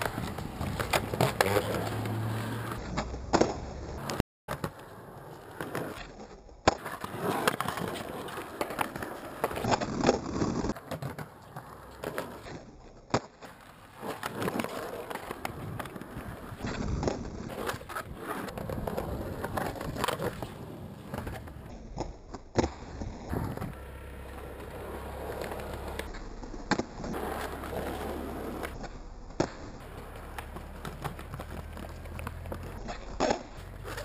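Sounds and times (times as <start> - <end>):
skateboard clacks: 0.0 - 34.0
skateboard wheels rolling on concrete: 0.0 - 34.0.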